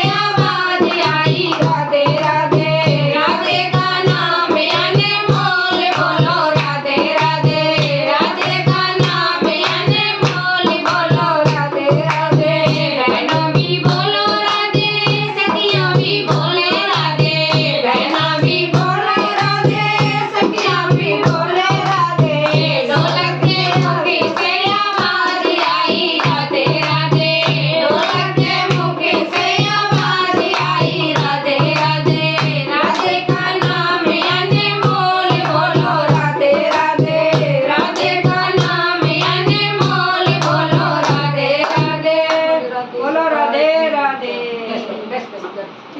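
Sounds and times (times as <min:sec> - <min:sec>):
hand drum beat: 0:00.0 - 0:42.5
person singing devotional song: 0:00.0 - 0:45.2.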